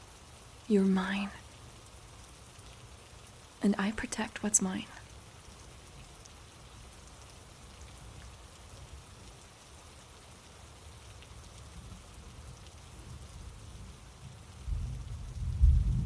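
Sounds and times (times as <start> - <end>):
faint rain: 0.0 - 16.0.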